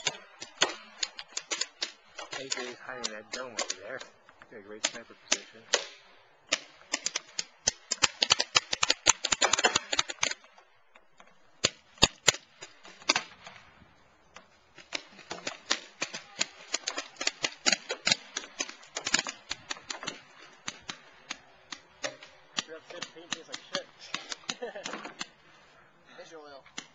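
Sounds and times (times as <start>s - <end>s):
paintball markers firing: 0.0s - 4.2s, 4.8s - 10.6s, 11.2s - 13.6s, 14.4s - 25.4s.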